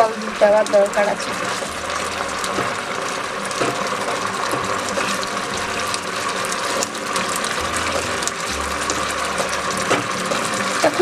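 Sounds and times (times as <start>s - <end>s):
gravy sizzling and bubbling in pan: 0.0s - 11.0s
spatula stirring: 1.4s - 11.0s.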